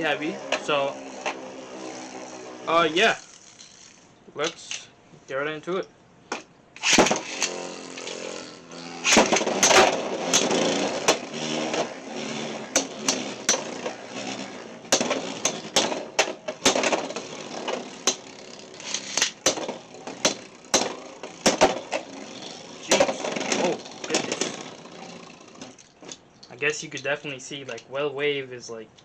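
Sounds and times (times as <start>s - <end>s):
spinning tops clacking: 0.0s - 4.8s, 6.8s - 27.2s
spinning tops whirring: 0.0s - 4.8s, 6.8s - 27.2s.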